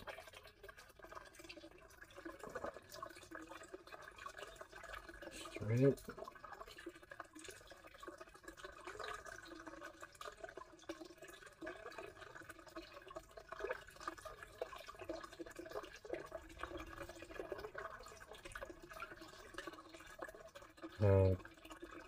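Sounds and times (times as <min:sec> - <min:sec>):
trickle of running water: 0:00.0 - 0:22.0.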